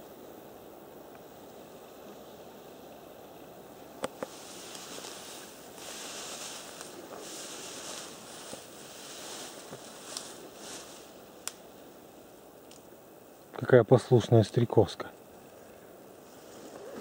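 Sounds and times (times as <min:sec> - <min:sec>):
high airy hiss: 0:00.0 - 0:17.0.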